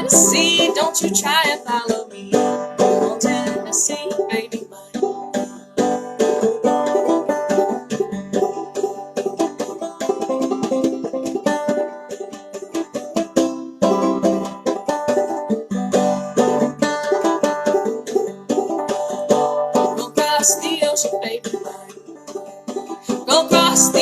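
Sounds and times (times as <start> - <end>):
banjo playing: 0.0 - 24.0.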